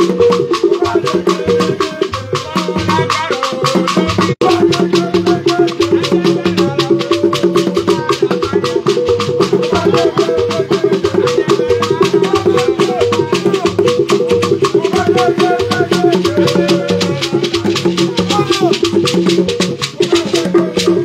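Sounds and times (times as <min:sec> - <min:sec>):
highlife music with percussion: 0:00.0 - 0:21.0.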